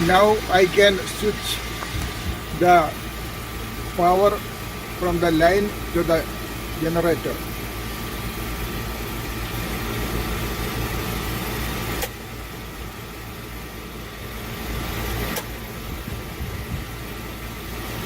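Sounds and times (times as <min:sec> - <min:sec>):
generator running: 0:00.0 - 0:18.0.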